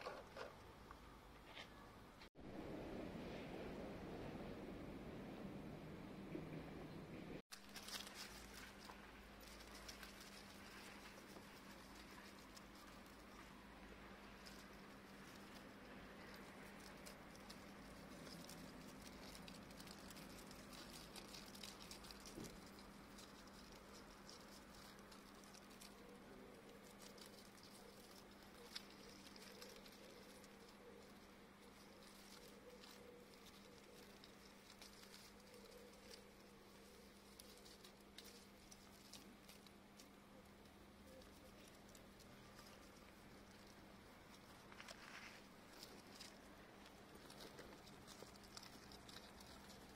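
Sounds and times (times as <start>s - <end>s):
low steady hum: 0.0s - 49.9s
grass rustling on dry soil: 7.5s - 49.9s.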